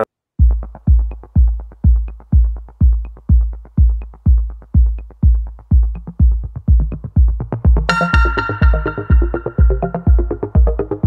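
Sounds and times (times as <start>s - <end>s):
electronic dance music: 0.4s - 11.0s.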